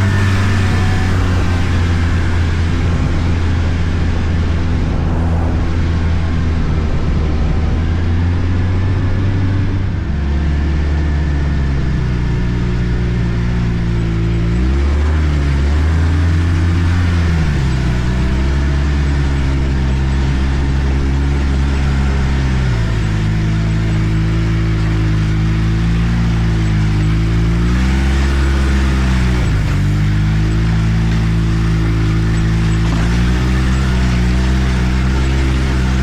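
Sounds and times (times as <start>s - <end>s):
snowmobile engine running: 0.0s - 36.0s.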